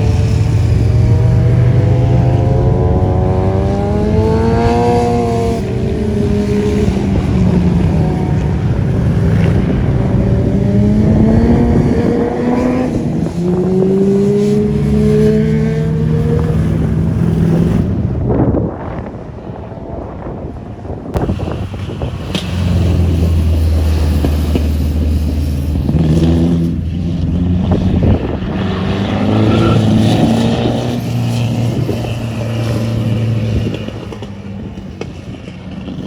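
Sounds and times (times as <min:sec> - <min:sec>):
vehicle engine accelerating: 0:00.0 - 0:36.0.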